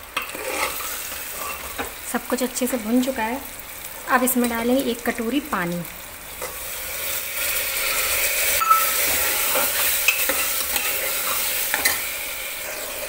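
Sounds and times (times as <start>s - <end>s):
water sizzling in hot pot: 0.0s - 13.0s.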